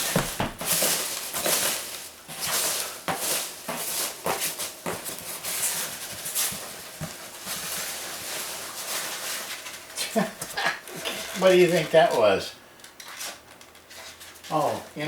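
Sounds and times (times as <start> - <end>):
hands rummaging through packing peanuts: 0.0 - 12.2.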